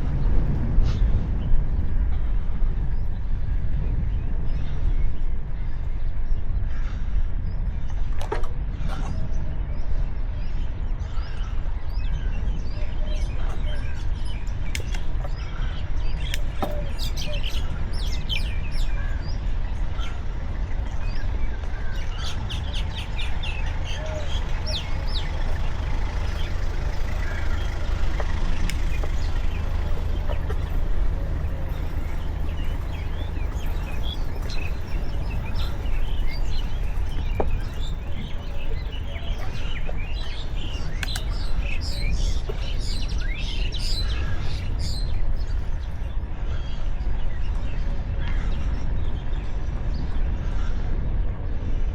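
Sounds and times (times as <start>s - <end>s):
birds chirping: 0.0s - 51.1s
wind on microphone: 0.0s - 51.9s.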